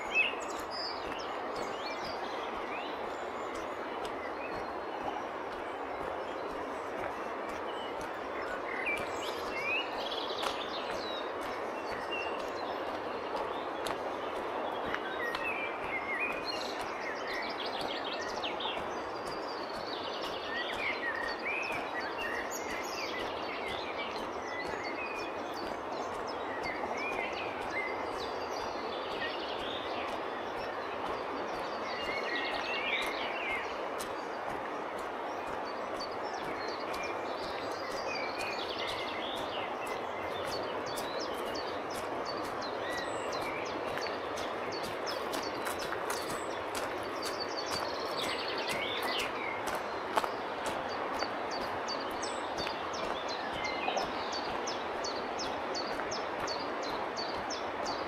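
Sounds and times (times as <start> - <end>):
birds chirping and singing: 0.0 - 58.0
river rushing: 0.0 - 58.0.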